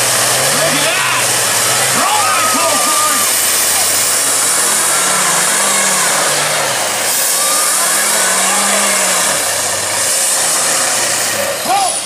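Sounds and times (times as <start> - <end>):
truck engines revving hard: 0.0 - 12.0.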